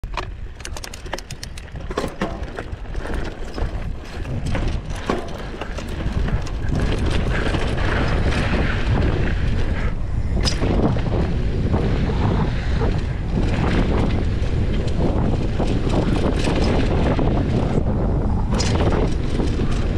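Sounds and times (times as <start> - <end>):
bike clicking and rattling: 0.0 - 19.9
wind on microphone: 0.0 - 19.9
bike tyres on gravel trail: 0.1 - 19.9.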